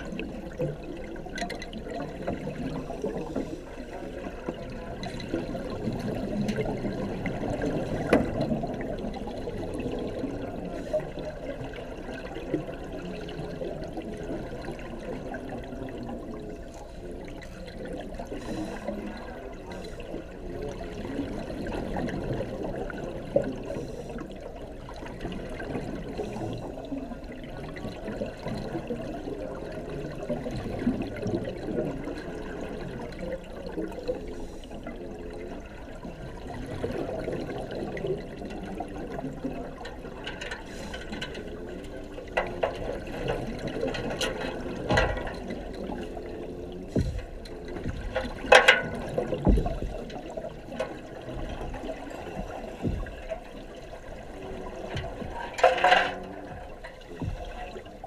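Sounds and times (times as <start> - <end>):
water bubbling and churning: 0.0 - 58.0.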